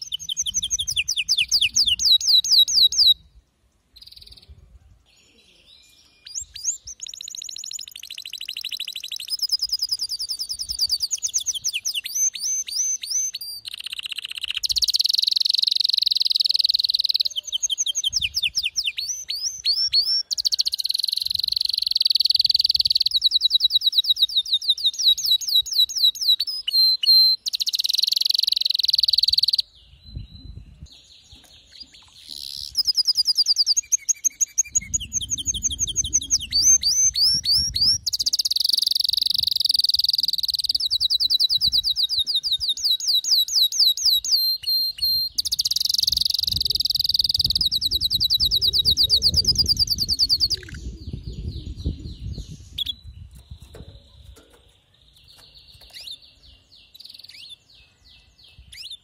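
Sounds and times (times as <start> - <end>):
canary singing trills: 0.0 - 3.4, 5.2 - 59.0.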